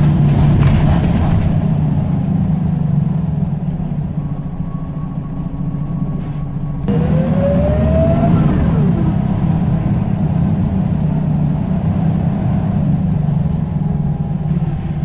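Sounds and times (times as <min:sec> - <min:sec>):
bus diesel engine running: 0:00.0 - 0:15.0
drivetrain whine: 0:01.6 - 0:15.0.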